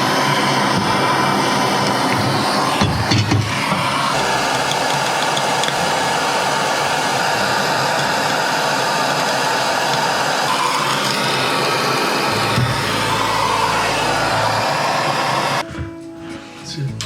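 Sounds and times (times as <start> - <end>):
torch flame hissing: 0.0 - 15.6.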